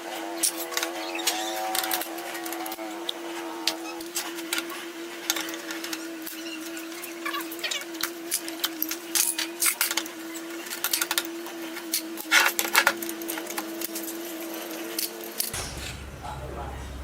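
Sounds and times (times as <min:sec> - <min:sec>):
small motor humming: 0:00.0 - 0:17.0.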